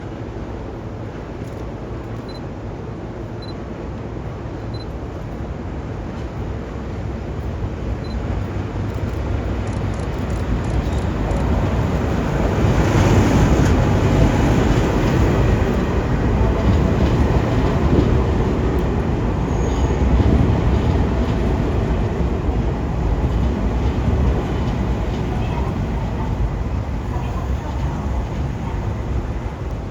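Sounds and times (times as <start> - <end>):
train engine and wheel rumble: 0.0 - 29.9.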